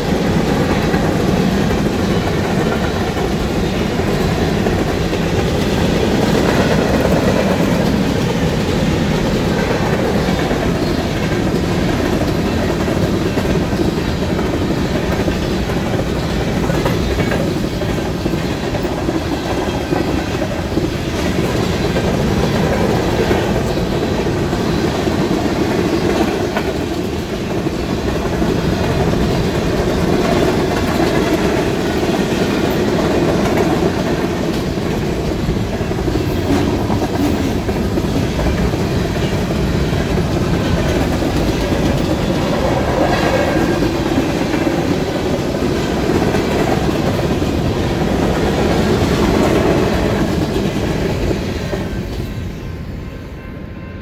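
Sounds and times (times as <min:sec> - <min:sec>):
train wheels running on rails: 0:00.0 - 0:54.0.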